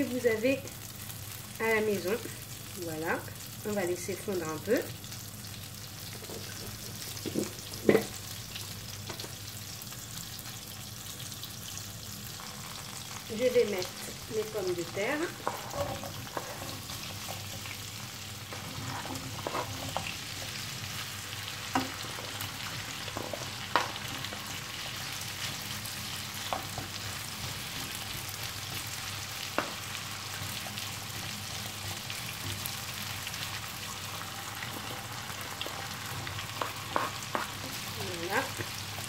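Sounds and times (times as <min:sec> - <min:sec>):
potatoes sizzling in a frying pan: 0:00.0 - 0:39.0.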